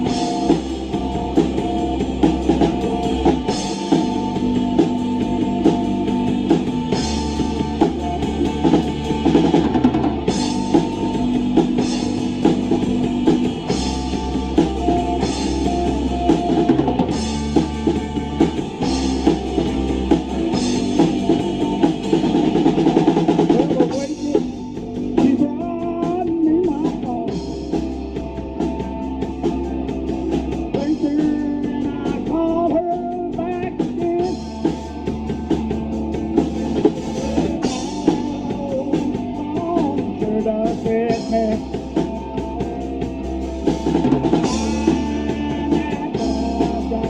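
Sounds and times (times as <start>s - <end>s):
bending guitar line: 0.0s - 47.0s
rock band playing instrumental: 0.0s - 47.0s.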